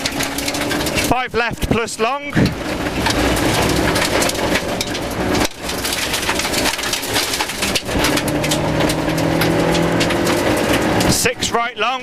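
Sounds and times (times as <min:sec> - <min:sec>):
gravel hitting car underside: 0:00.0 - 0:12.0
rally car engine under load: 0:00.0 - 0:12.0.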